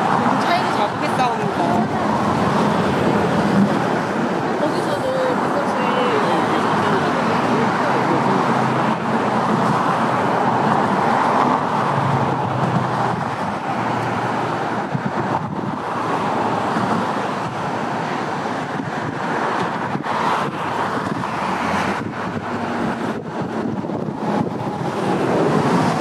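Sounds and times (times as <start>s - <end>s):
road traffic on a bridge: 0.0s - 26.0s.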